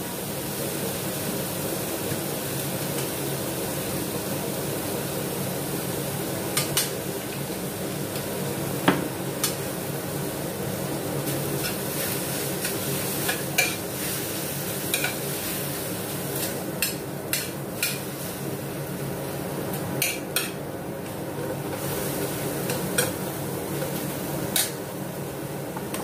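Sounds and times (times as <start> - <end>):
light sizzle: 0.0 - 26.0.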